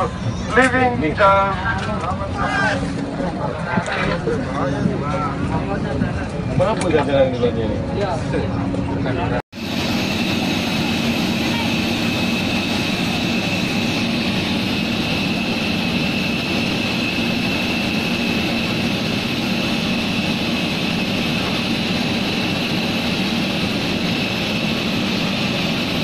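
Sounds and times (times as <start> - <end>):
jet turbine rumble and whine: 0.0 - 26.0.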